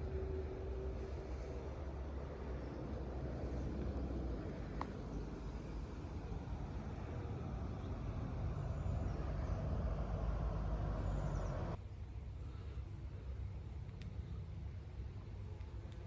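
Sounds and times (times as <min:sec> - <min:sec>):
distant engine rumble: 0:00.0 - 0:16.0.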